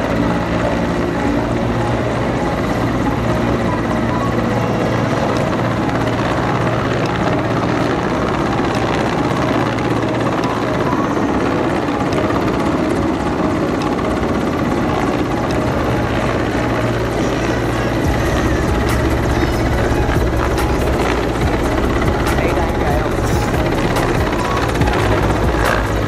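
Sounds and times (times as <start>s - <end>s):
helicopter hovering: 0.0s - 26.0s.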